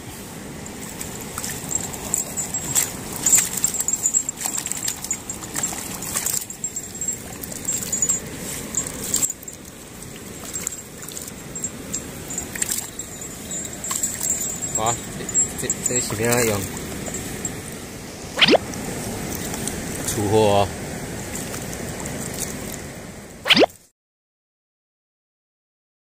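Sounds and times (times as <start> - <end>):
stream rushing: 0.0 - 23.7
water sloshing and splashing: 0.0 - 23.8.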